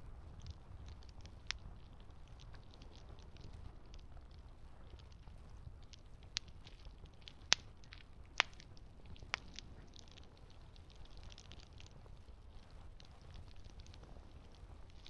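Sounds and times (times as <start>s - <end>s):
campfire crackling: 0.0s - 15.0s
fire pops: 0.2s - 15.0s.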